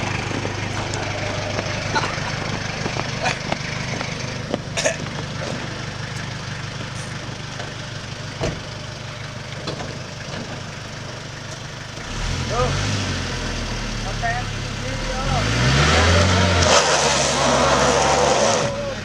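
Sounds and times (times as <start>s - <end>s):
pickup truck engine running: 0.0s - 19.0s.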